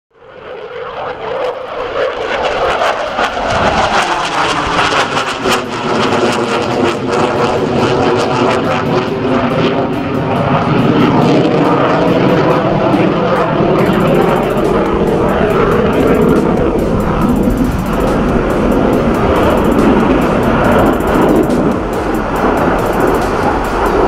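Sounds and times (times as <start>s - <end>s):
fighter jet flying past: 0.2s - 24.0s.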